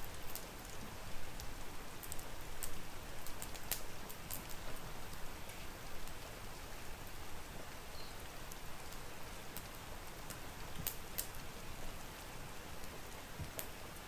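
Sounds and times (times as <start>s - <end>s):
steady rain hiss: 0.0s - 14.0s
wood fire crackling: 0.0s - 14.0s.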